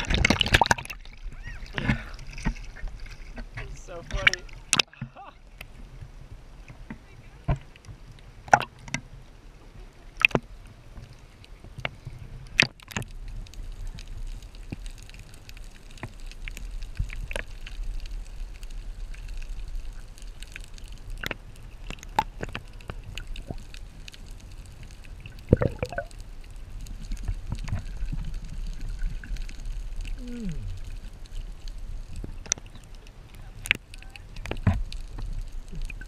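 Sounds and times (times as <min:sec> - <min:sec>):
low underwater rumble: 0:00.0 - 0:36.0
water sloshing and gurgling: 0:00.0 - 0:36.0.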